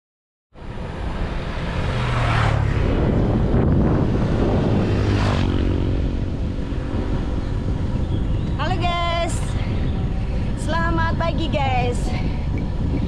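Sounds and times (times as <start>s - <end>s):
wind buffeting microphone: 0.6s - 13.0s.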